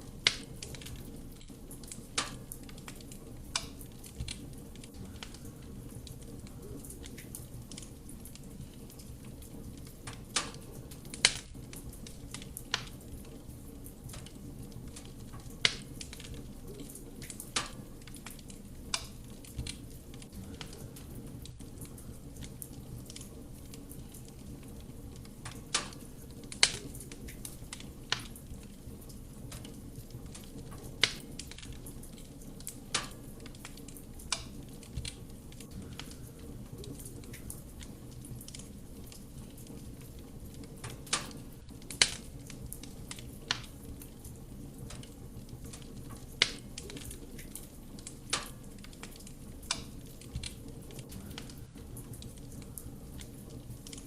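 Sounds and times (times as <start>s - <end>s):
wood crackling and popping: 0.0s - 54.0s.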